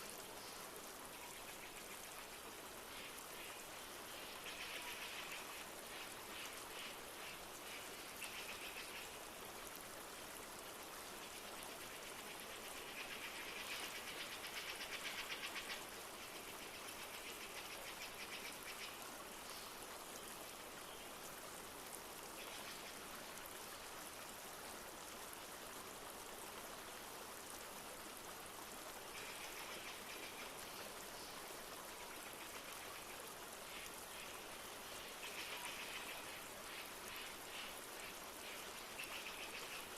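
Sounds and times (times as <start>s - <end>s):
light rain falling: 0.0s - 39.9s
river flowing: 0.0s - 39.9s.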